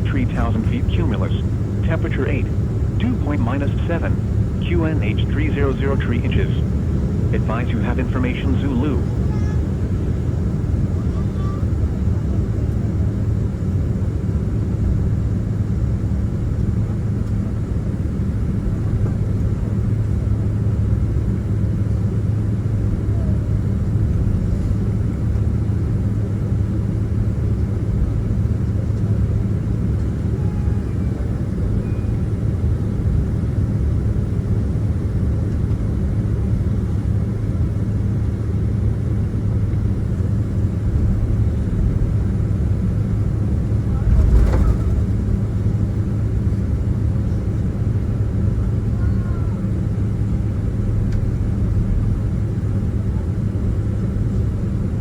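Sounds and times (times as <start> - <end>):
jet engines idling: 0.0 - 55.0.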